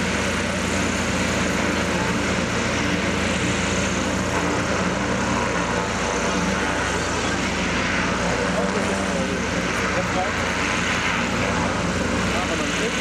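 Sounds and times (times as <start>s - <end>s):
engine drone: 0.0s - 13.0s
propeller wash: 0.0s - 13.0s.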